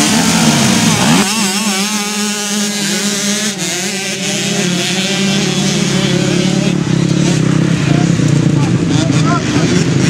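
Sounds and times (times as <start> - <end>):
motocross bike engines revving: 0.0 - 10.0.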